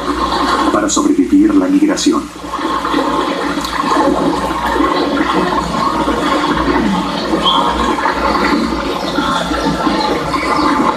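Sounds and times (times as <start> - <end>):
water rushing and splashing: 0.0 - 10.9.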